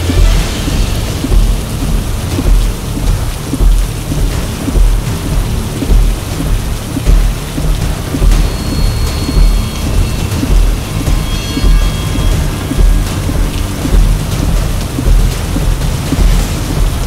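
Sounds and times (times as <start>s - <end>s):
deep thump: 0.0s - 17.0s
heavy rain on car windshield: 0.0s - 17.0s.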